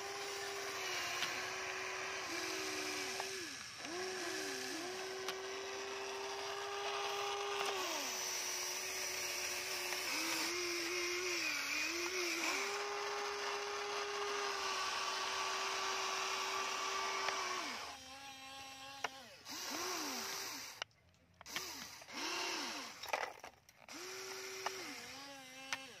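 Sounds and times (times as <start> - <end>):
electric motors whining: 0.0 - 26.0.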